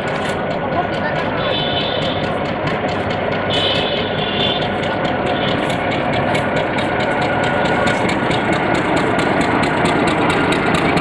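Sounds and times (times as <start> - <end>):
diesel train engine running: 0.0 - 11.0
rhythmic clatter: 0.0 - 11.0.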